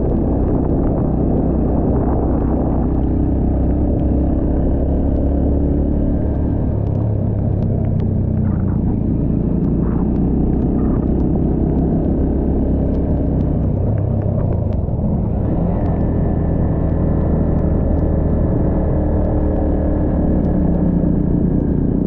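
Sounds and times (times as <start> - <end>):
motorbike engine running: 0.0 - 22.0
sharp ticks: 0.0 - 22.0.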